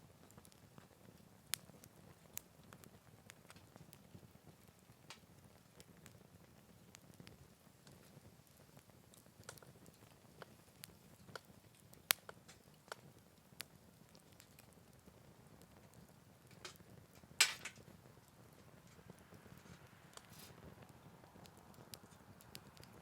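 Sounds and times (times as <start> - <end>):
campfire crackling and popping: 0.0 - 23.0
loud snap of fire: 0.2 - 14.8, 15.6 - 23.0.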